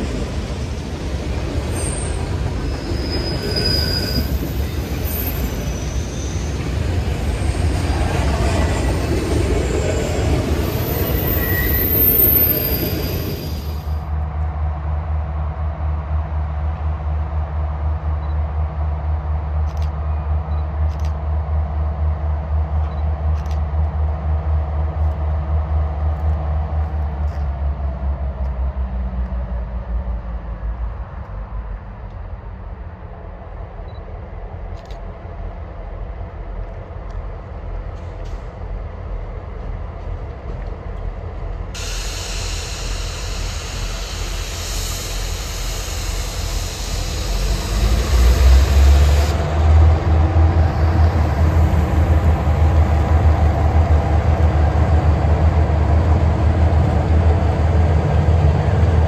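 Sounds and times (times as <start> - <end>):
diesel locomotive engine rumbling: 0.0 - 59.0.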